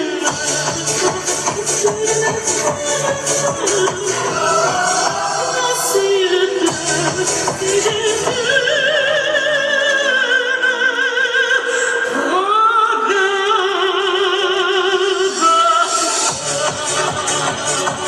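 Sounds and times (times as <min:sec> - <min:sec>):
operatic singing with vibrato: 0:00.0 - 0:18.0.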